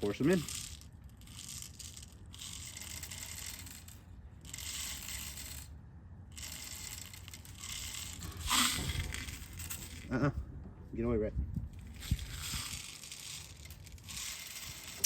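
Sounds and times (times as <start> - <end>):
metal pellets rattling into gun: 0.0 - 5.7, 6.3 - 10.1, 11.8 - 15.0.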